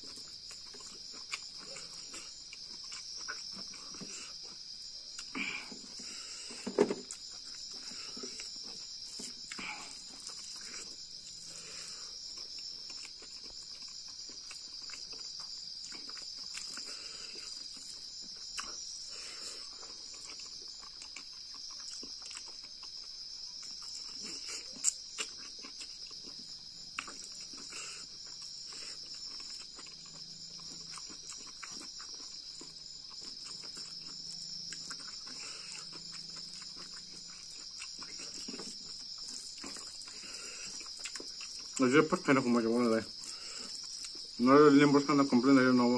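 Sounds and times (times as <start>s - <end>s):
chewing and mouth smacks: 0.0s - 6.2s, 7.0s - 42.3s, 43.0s - 44.4s
night insects chorus: 0.0s - 45.9s.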